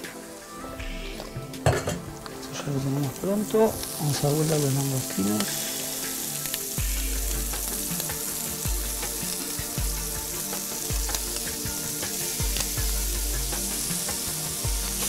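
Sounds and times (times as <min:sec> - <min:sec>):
prawns sizzling in hot oil: 0:00.0 - 0:15.0
soft background music: 0:00.0 - 0:15.0.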